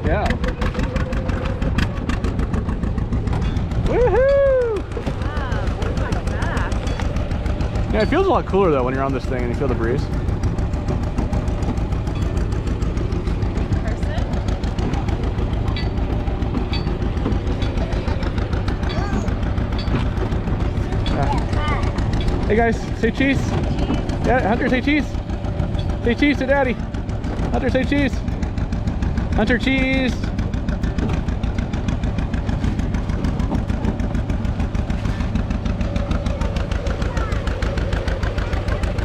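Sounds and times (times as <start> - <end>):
tractor engine rumble: 0.0 - 39.0
wagon rattling: 0.0 - 39.0.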